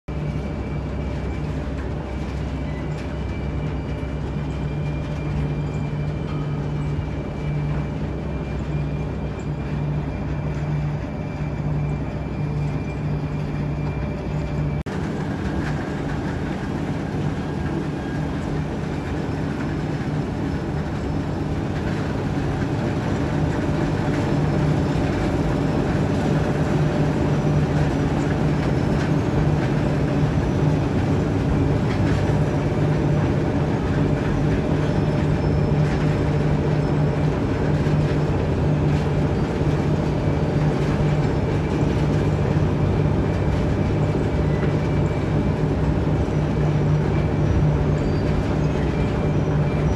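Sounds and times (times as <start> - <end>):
heavy mechanical rumble: 0.0 - 49.9.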